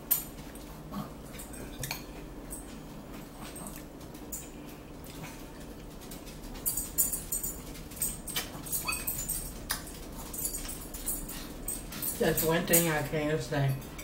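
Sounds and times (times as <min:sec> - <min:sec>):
chewing salad with crunching: 0:00.0 - 0:12.3.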